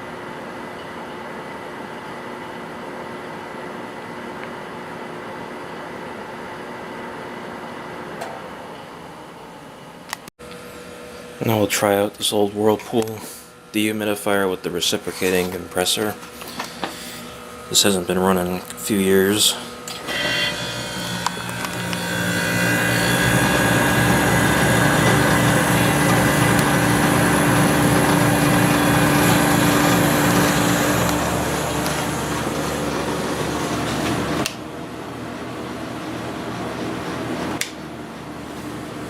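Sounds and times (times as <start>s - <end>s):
dehumidifier compressor hum: 0.0s - 39.0s
fan noise: 5.7s - 39.0s.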